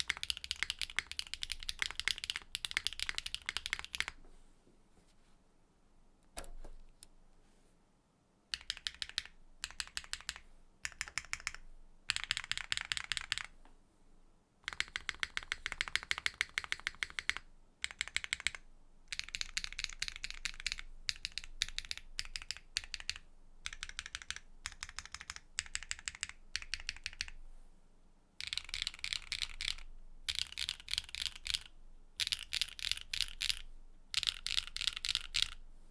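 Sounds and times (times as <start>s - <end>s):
typing on mechanical keyboard: 0.0s - 4.2s, 8.5s - 13.6s, 14.6s - 27.4s, 28.4s - 35.6s.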